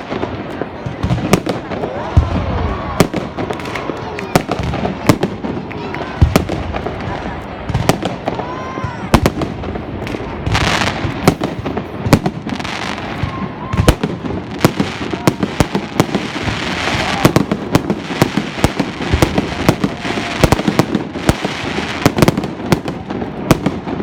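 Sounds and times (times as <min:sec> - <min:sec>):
fireworks banging: 0:00.0 - 0:24.0
fireworks crackling: 0:00.0 - 0:24.0.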